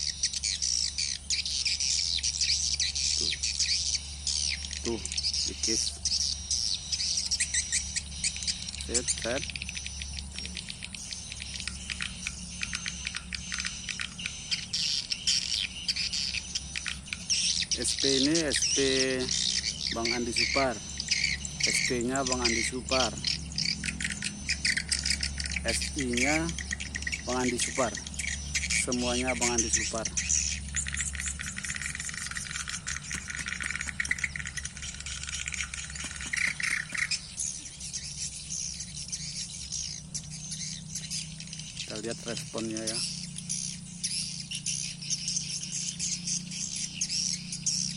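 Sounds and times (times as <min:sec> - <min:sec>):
low steady hum: 0:00.0 - 0:47.9
swiftlets twittering: 0:00.0 - 0:47.9.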